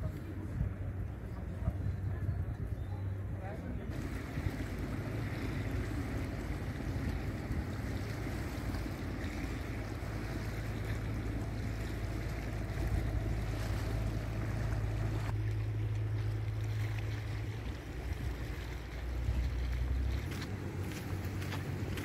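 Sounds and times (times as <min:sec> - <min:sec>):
boat motor drone: 0:00.0 - 0:22.0
water: 0:00.0 - 0:22.0
wind: 0:00.0 - 0:22.0.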